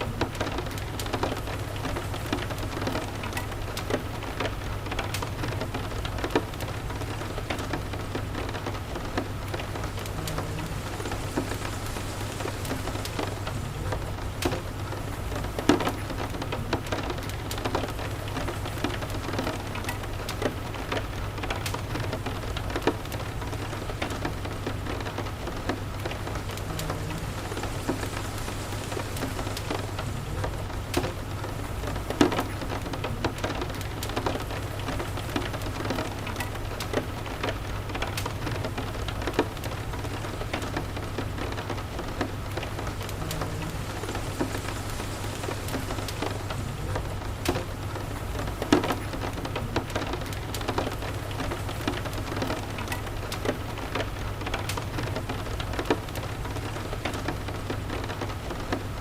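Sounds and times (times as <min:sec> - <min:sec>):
sharp crackles and ticks: 0:00.0 - 0:59.0
steady rain: 0:00.0 - 0:59.0.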